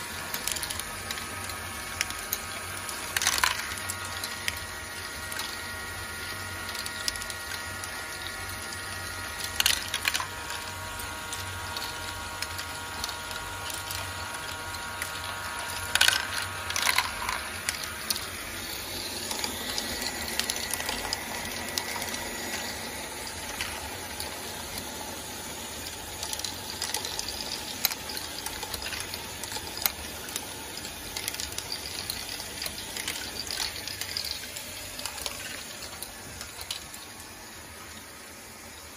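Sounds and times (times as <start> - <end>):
plastic balls clattering: 0.0 - 24.8, 26.1 - 37.1.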